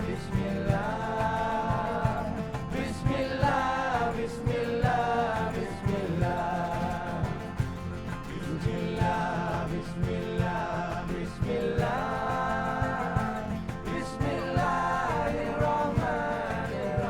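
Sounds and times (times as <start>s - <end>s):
hand percussion beat: 0.0s - 17.0s.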